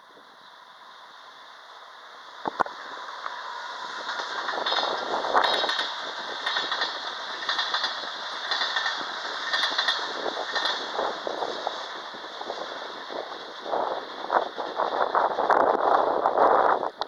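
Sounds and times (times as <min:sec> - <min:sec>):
train wheels clattering over track: 0:02.4 - 0:16.1.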